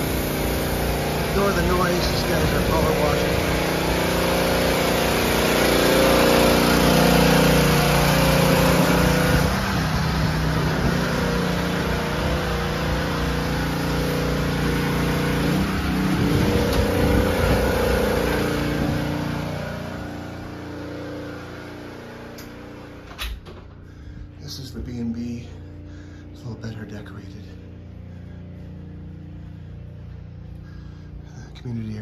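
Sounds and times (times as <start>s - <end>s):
pressure washer engine running: 0.0s - 32.0s.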